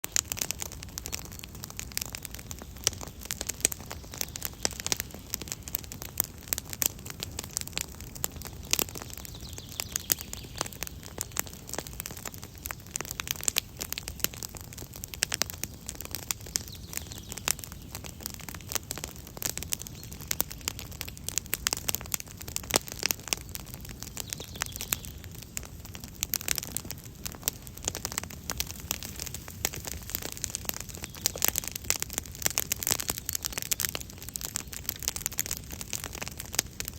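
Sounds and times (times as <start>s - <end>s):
campfire crackling and popping: 0.0s - 36.9s
rush of flames: 0.1s - 36.9s.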